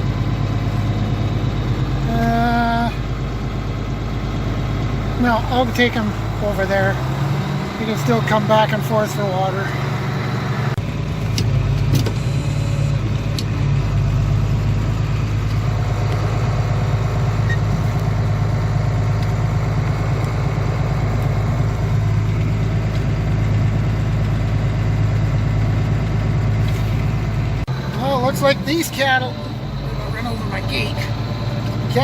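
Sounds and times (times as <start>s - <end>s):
diesel tractor engine droning: 0.0s - 32.0s.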